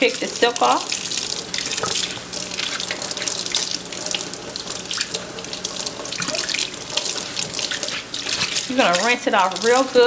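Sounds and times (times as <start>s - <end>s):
faucet running into steel sink: 0.0s - 10.0s.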